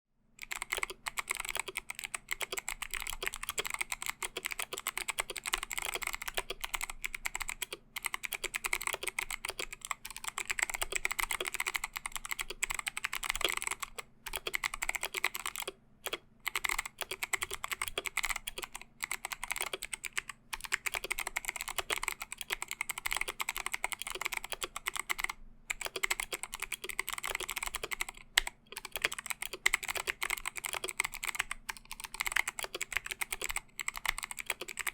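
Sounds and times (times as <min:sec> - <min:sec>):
clicky mechanical keyboard typing: 0:00.4 - 0:34.9.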